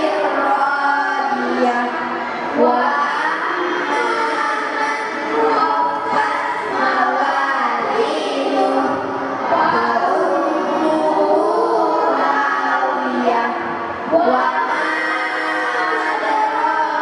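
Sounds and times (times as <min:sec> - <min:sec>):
children singing in unison: 0:00.0 - 0:17.0.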